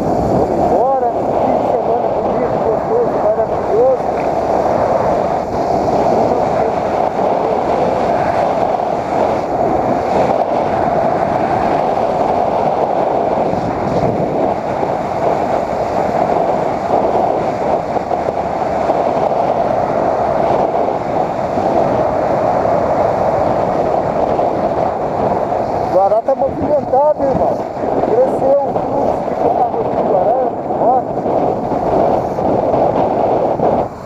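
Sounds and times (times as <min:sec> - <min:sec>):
road noise: 0:00.0 - 0:34.0
wind rush on microphone: 0:00.0 - 0:34.0.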